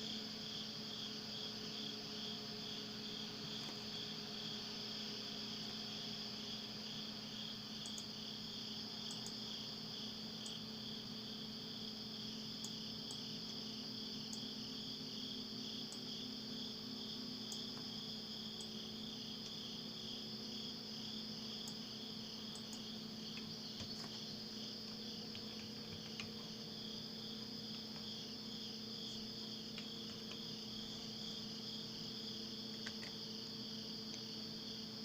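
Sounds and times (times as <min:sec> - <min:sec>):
crickets chirping: 0:00.0 - 0:35.0
faint low hum: 0:00.0 - 0:35.0.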